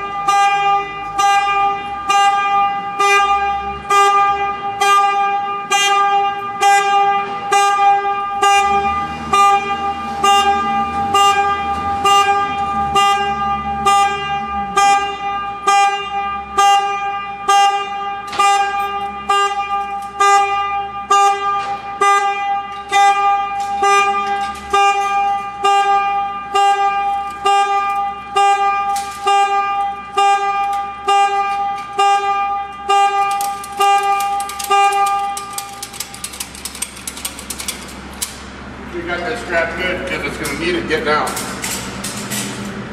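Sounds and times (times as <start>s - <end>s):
reversing alarm beeping: 0.0s - 37.7s
low engine rumble: 0.0s - 42.9s.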